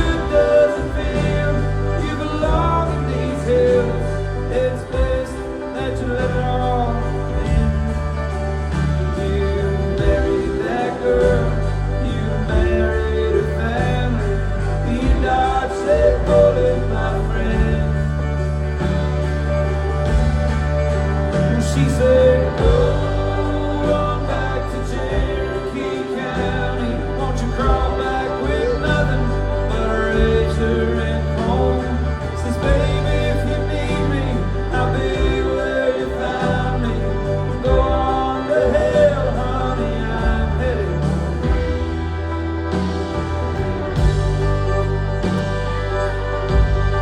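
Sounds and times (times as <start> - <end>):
bass guitar: 0.0 - 47.0
country band playing: 0.0 - 47.0
drums: 0.0 - 47.0.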